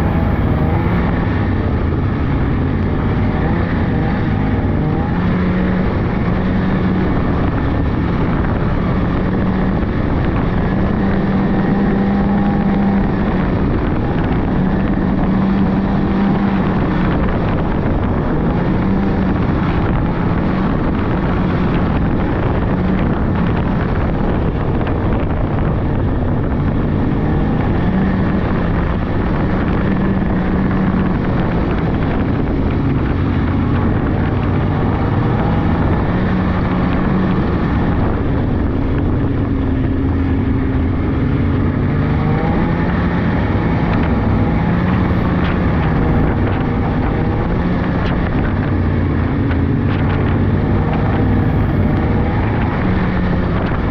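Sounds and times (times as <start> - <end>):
snowmobile engine running: 0.0 - 53.9
wind rushing over microphone: 0.0 - 53.9.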